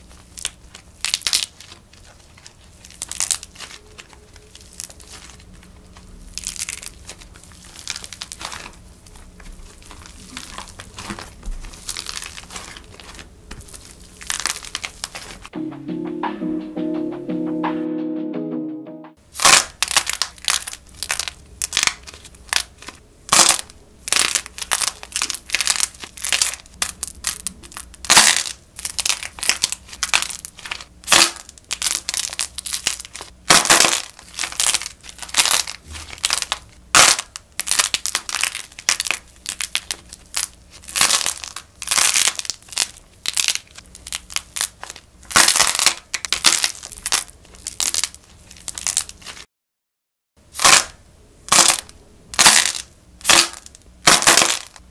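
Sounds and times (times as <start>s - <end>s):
dried clay cracking and crunching: 0.0s - 15.5s, 19.3s - 49.5s, 50.5s - 54.9s.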